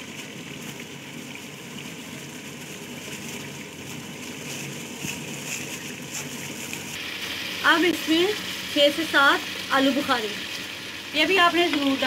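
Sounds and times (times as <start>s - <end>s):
meat frying in oil: 0.0s - 12.0s.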